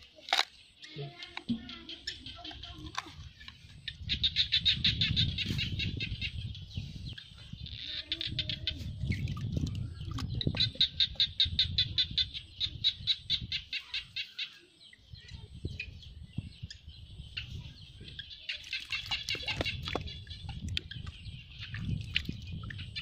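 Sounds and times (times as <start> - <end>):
bird chirping rapidly: 0.5 - 23.0.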